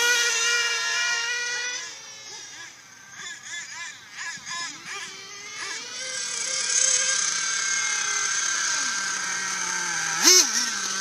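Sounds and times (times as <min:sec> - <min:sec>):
rc buggy engine whining: 0:00.0 - 0:11.0.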